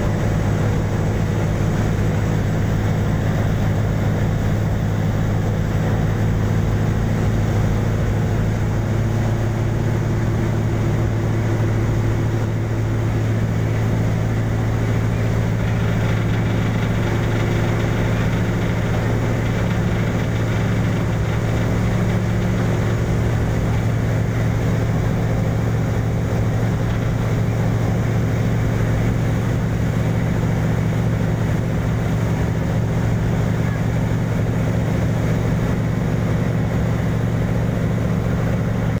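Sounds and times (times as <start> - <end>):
ship diesel engines droning: 0.0 - 39.0
wake rushing: 0.0 - 39.0
wind along hull: 0.0 - 39.0.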